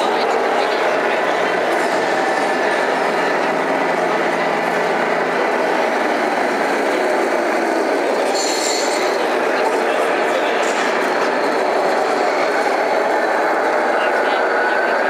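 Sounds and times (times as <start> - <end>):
crowd noise in a large hall: 0.0 - 15.0.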